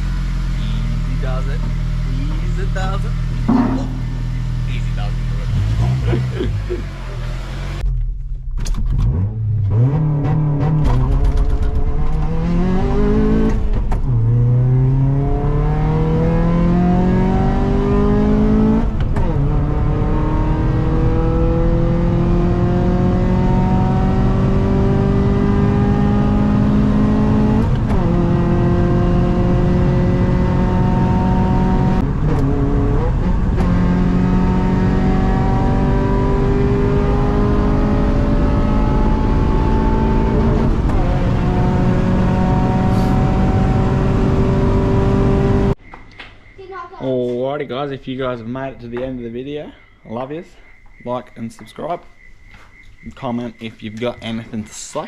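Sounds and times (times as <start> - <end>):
car engine accelerating: 0.0 - 45.8.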